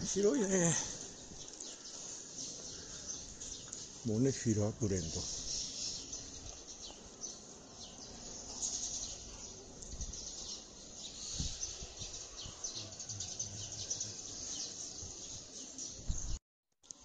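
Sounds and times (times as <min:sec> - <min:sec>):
birds chirping: 0:00.0 - 0:16.4.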